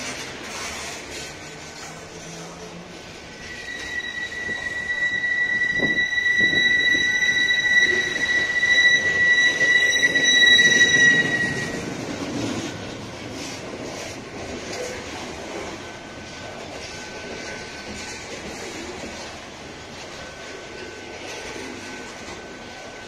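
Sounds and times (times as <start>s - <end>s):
rumble of freight wagons: 0.0s - 23.0s
train wheel squeal: 0.0s - 23.0s.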